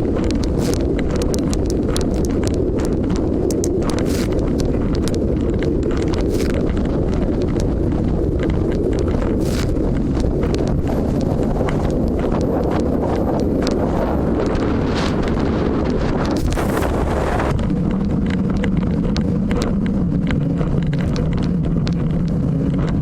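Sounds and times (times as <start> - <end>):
boat engine low rumble: 0.0 - 23.0
wind buffeting microphone: 0.0 - 23.0.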